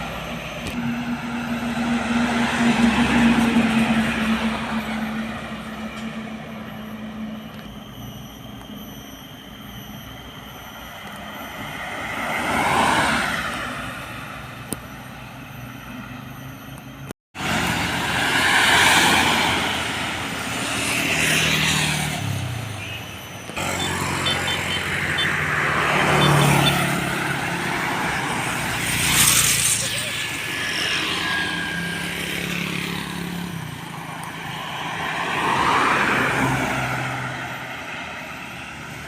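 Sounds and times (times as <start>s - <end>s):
road vehicles passing by: 0.0s - 39.0s.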